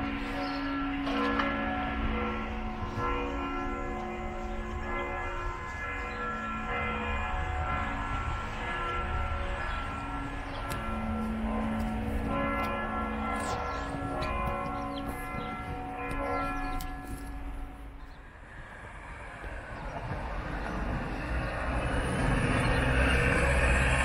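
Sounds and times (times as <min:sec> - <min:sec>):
church bells ringing: 0:00.0 - 0:24.0
road traffic: 0:00.0 - 0:24.0.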